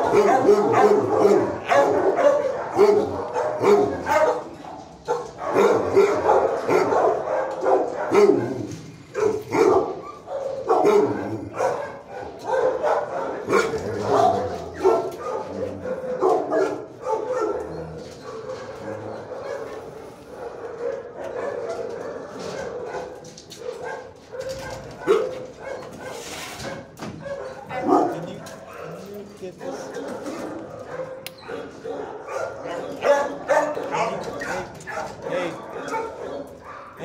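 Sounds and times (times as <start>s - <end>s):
dogs barking: 0.0s - 37.0s.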